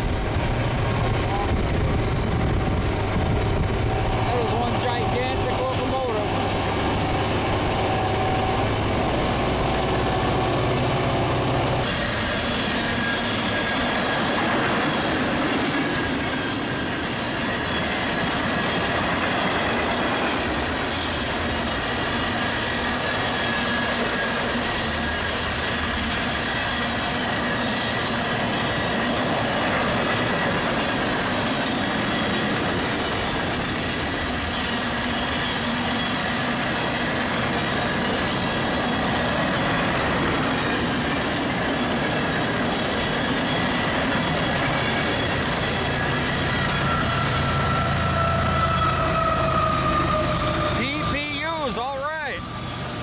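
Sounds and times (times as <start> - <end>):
high wheel squeal: 0.0 - 14.4, 19.5 - 53.0
freight train rumbling past: 0.0 - 53.0.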